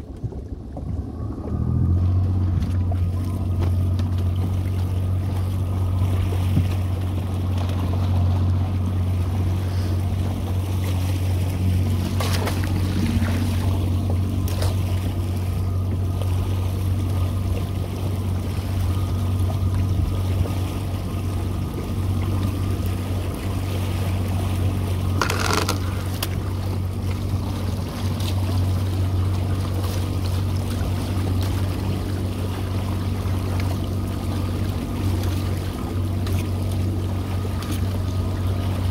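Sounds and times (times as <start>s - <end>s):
outboard motor idling: 0.0s - 38.9s.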